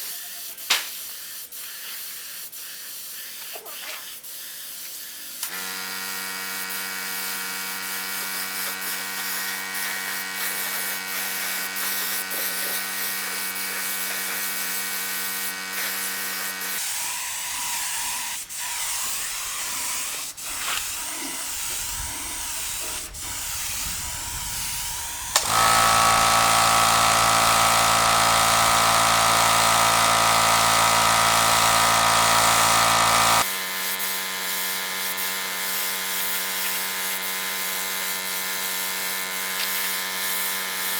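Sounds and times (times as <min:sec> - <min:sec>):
small electric power tools running: 0:05.4 - 0:40.9.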